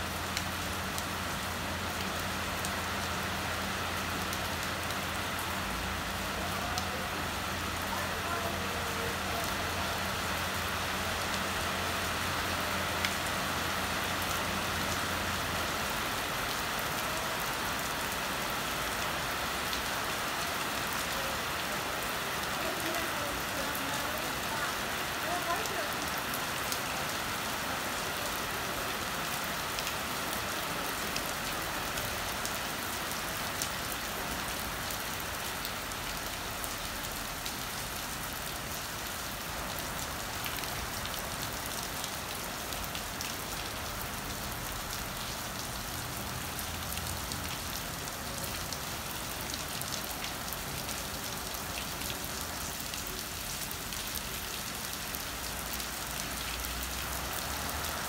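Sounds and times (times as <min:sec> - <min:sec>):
rain on wet paving and puddles: 0:00.0 - 0:58.0.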